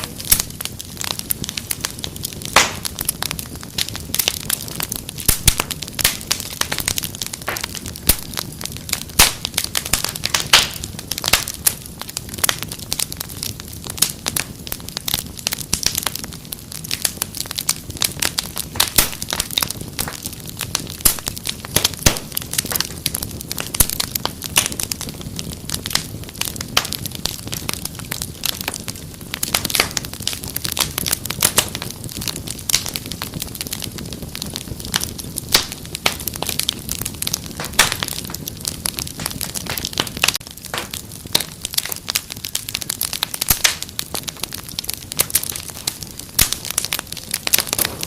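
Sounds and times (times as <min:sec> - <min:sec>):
fire crackling: 0:00.0 - 0:48.0.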